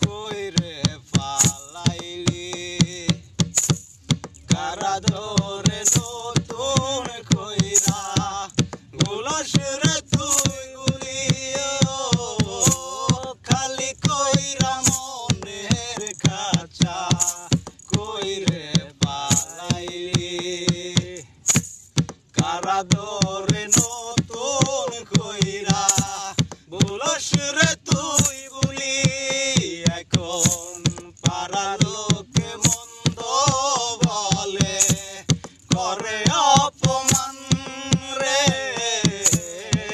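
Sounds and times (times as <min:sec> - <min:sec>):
men singing: 0:00.0 - 0:03.5, 0:04.3 - 0:21.7, 0:22.3 - 0:39.9.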